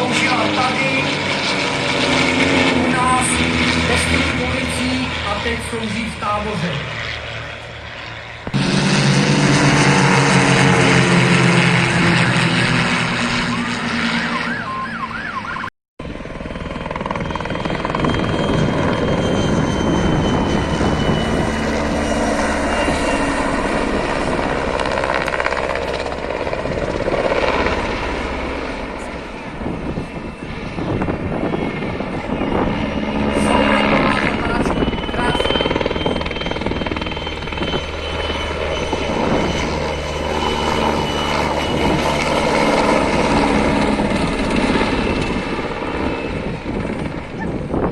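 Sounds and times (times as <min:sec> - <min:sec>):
helicopter flying past: 0:00.0 - 0:47.9.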